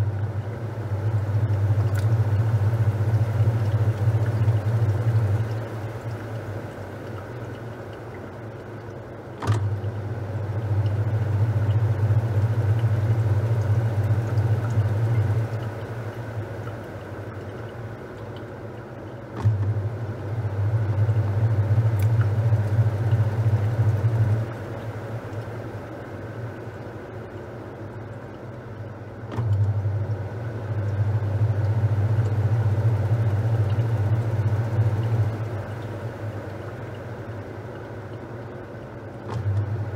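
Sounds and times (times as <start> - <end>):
washing machine motor humming: 0.0 - 39.9
water swishing in tub: 0.0 - 39.9.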